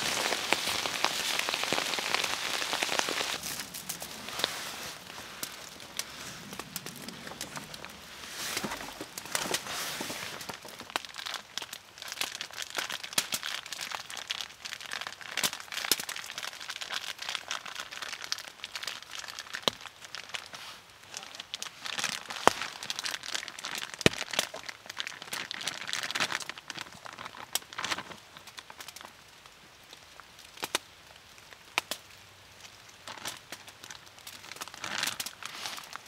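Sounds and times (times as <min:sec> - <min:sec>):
crinkling and rustling: 0:00.0 - 0:29.2, 0:32.6 - 0:36.0.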